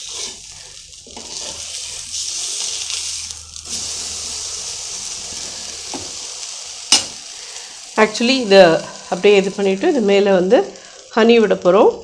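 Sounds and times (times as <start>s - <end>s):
bread sizzling in a pan: 0.0s - 12.0s.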